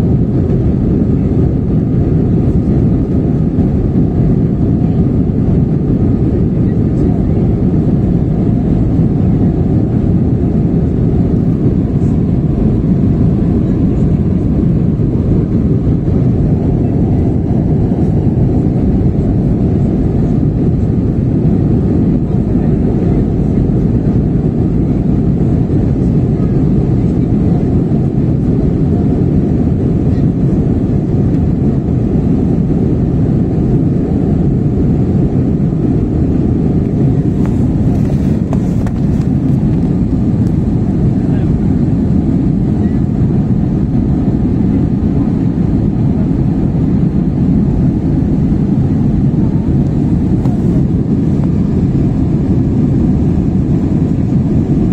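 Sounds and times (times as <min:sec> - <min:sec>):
jet engines and airflow rushing: 0:00.0 - 0:54.9.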